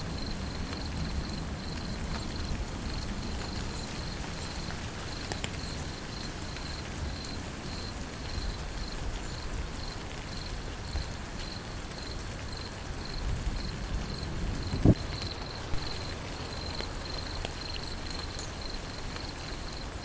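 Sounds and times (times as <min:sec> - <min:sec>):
steady rain falling: 0:00.0 - 0:20.0
insect chirping: 0:00.1 - 0:19.9.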